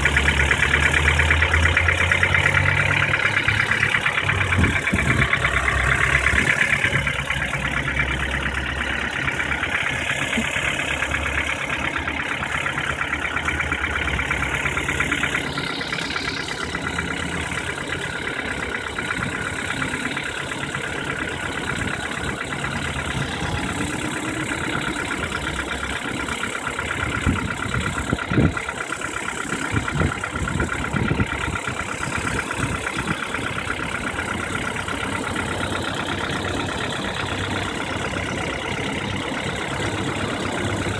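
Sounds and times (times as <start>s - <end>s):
petrol engine knocking: 0.0s - 40.9s.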